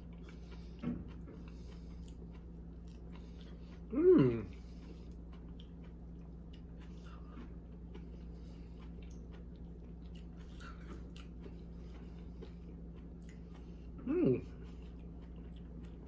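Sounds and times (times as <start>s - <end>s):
faint chewing: 0.0s - 16.0s
steady low hum: 0.0s - 16.0s.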